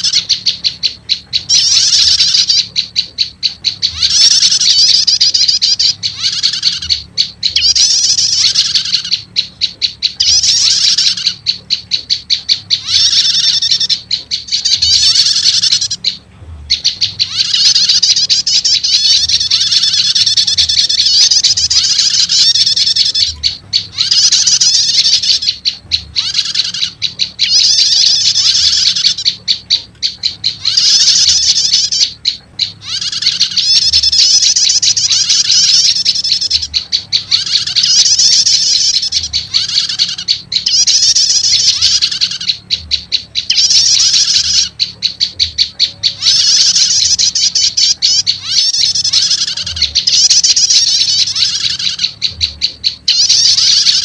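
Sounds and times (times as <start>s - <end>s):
faint low hum: 0.0s - 54.0s
high-pitched bird trills: 0.0s - 54.0s.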